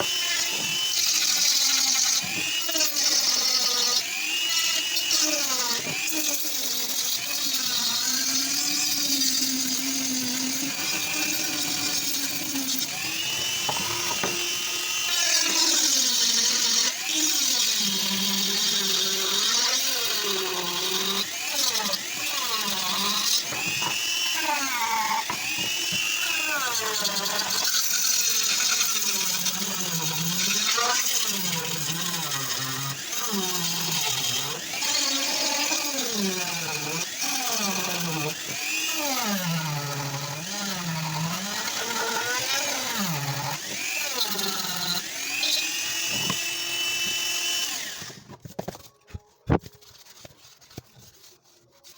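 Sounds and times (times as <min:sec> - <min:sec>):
handheld power tool running: 0:00.0 - 0:48.5.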